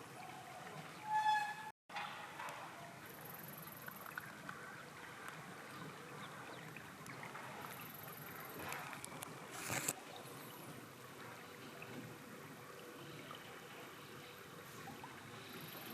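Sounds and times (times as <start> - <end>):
flowing river water: 0.0 - 15.9.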